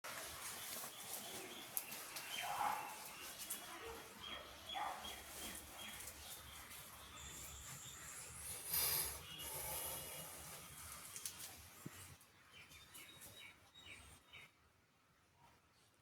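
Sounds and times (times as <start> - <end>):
birds chirping: 0.1 - 14.6.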